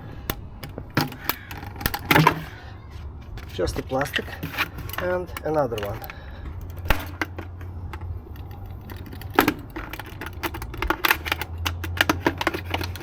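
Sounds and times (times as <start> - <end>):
low steady hum: 0.0 - 13.0
plastic pieces clicking: 0.2 - 2.6, 3.2 - 13.0.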